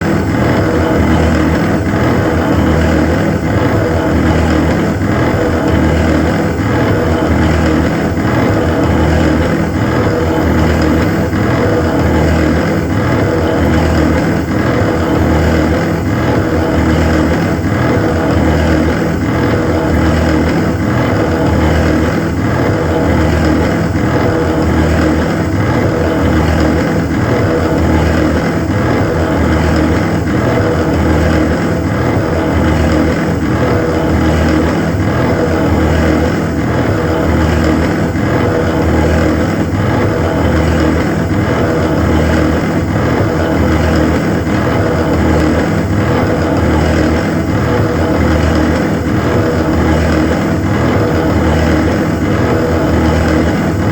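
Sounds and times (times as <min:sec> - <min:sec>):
machine humming: 0:00.0 - 0:53.9.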